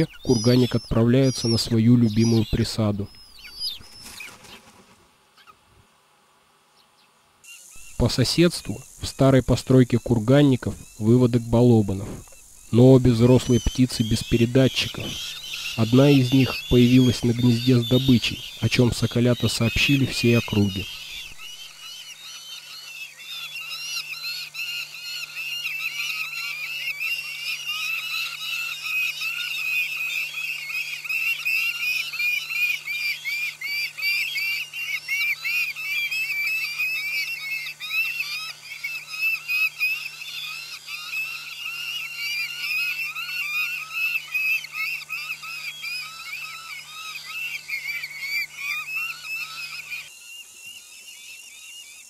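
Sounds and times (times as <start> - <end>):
falcon chicks begging calls: 0.0 - 5.6, 7.5 - 52.0.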